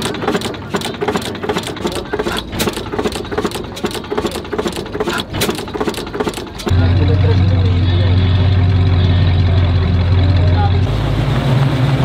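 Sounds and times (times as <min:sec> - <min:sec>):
old engine clattering: 0:00.0 - 0:10.9.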